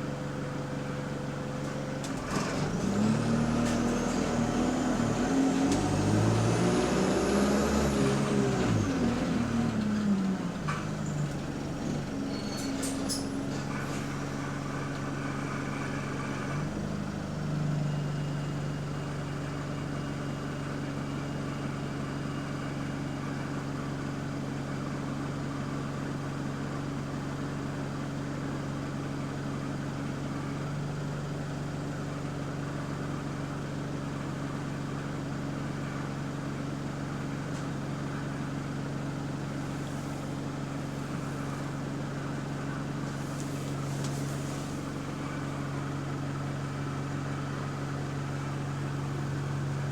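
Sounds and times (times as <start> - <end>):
bus engine and cabin drone: 0.0 - 49.9.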